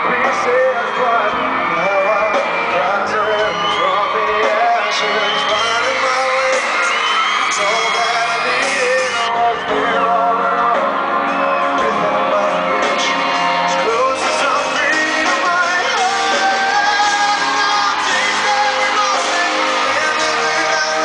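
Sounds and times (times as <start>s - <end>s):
audience whooping and yelling: 0.0s - 21.0s
live band playing pop-rock ballad: 0.0s - 21.0s
man singing into microphone: 0.0s - 21.0s.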